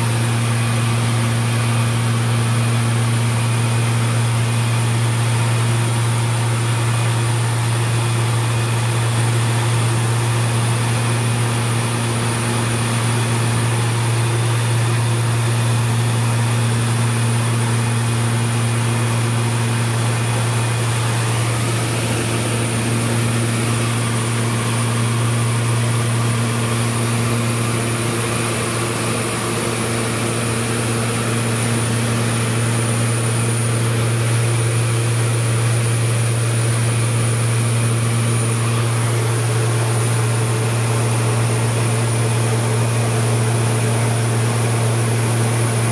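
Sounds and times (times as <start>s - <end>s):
propeller aircraft engine droning: 0.0s - 45.9s.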